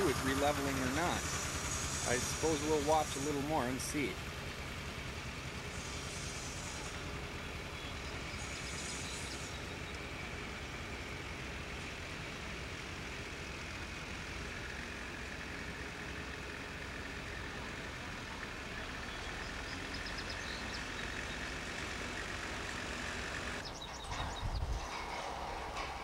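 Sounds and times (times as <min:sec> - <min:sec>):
distant crane engine running: 0:00.0 - 0:26.0.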